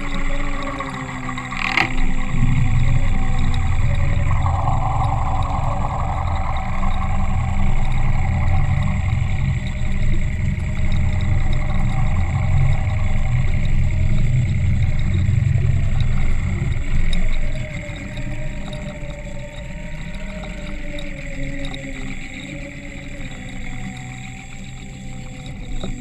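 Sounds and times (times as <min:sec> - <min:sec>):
muffled underwater engine drone: 0:00.0 - 0:26.0.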